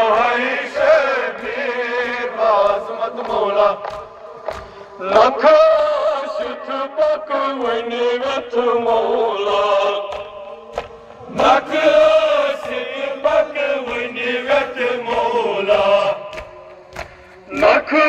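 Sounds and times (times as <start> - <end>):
hands slapping chests: 0.0 - 18.0
men chanting a lament: 0.0 - 18.0.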